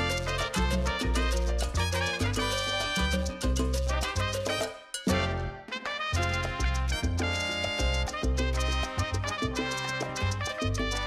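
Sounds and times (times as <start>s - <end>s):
salsa music: 0.0s - 11.0s.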